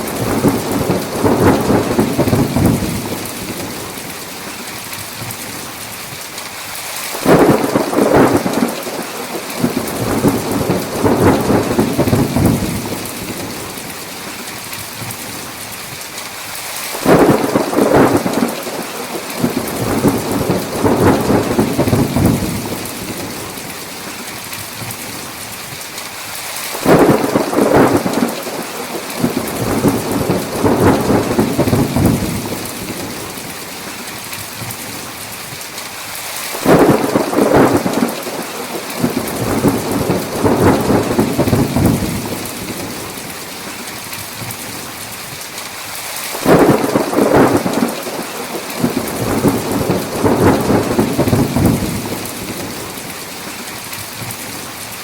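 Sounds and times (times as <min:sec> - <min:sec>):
thunder rumbling: 0:00.0 - 0:05.7, 0:07.1 - 0:15.4, 0:16.9 - 0:25.2, 0:26.7 - 0:34.9, 0:36.5 - 0:44.9, 0:46.3 - 0:53.6
heavy rain falling: 0:00.0 - 0:55.0.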